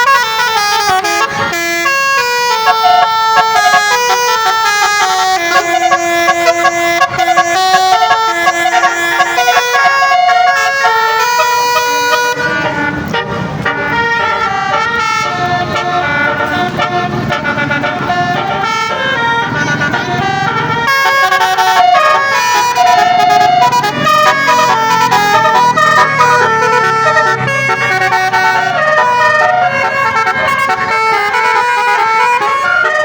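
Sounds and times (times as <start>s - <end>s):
musical bus horns: 0.0s - 33.0s.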